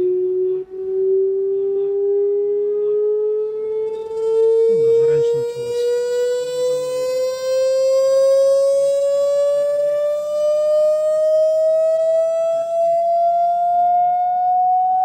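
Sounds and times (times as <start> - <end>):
creaking speaker buzz: 0.0 - 13.9
rising test tone from speakers: 0.0 - 15.0.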